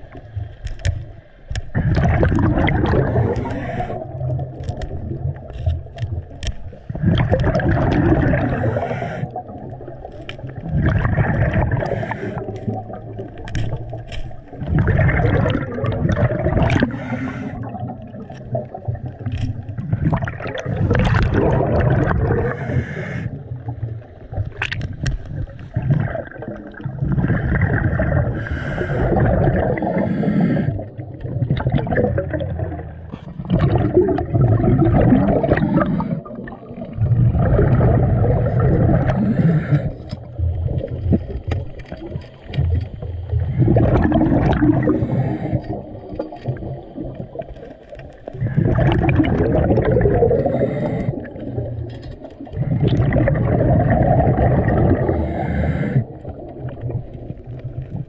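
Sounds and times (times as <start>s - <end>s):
rushing gurgling water: 0.0s - 58.0s.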